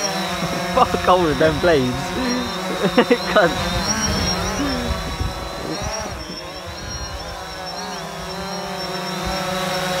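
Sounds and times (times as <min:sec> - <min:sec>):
drone buzzing whine: 0:00.0 - 0:10.0.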